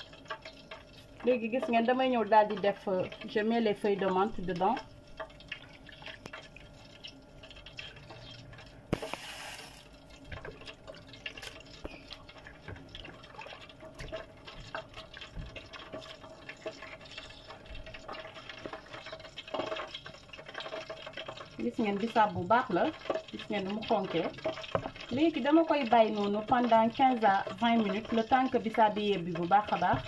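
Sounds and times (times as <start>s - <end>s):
pot boiling with bubbling pops: 0.0s - 30.0s.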